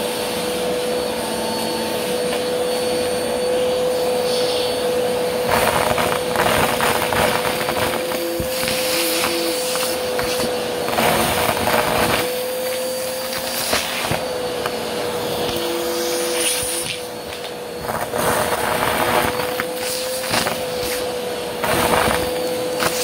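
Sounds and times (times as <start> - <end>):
debris sucked up vacuum tool: 0.0 - 23.0
vacuum cleaner motor whine: 0.0 - 23.0.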